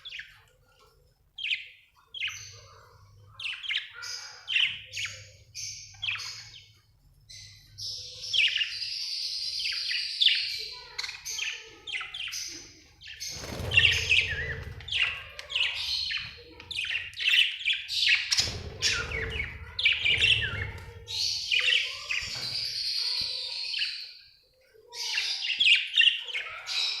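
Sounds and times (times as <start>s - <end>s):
budgerigars chirping and warbling: 0.0s - 0.7s, 1.3s - 27.0s.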